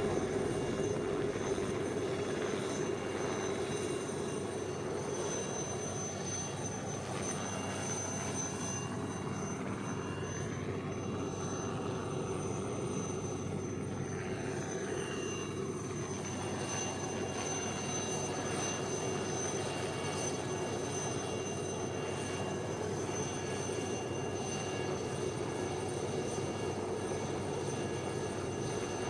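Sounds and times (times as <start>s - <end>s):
helicopter turbine and rotors: 0.0s - 29.0s.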